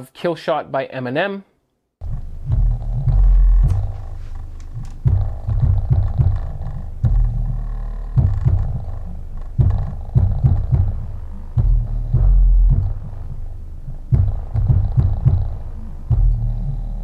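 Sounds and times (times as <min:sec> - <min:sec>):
low buzzing rumble: 0:02.0 - 0:17.0.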